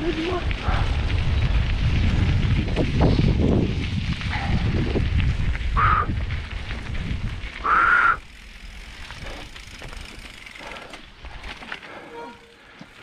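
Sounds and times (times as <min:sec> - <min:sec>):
bike tyres rumbling on gravel: 0:00.0 - 0:13.0
wind: 0:00.0 - 0:13.0.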